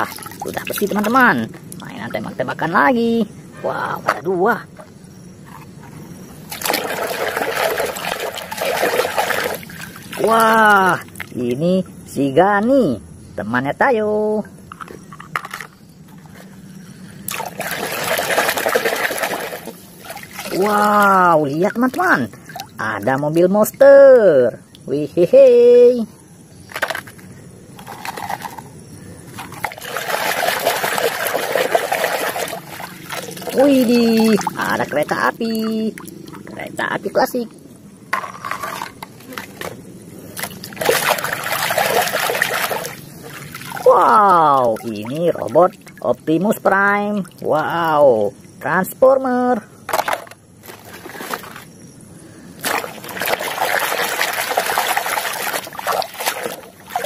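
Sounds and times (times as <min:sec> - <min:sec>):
water sloshing and splashing: 0:00.0 - 0:02.8, 0:04.0 - 0:11.6, 0:14.7 - 0:23.8, 0:26.7 - 0:48.3, 0:49.9 - 0:51.8, 0:52.6 - 0:57.0.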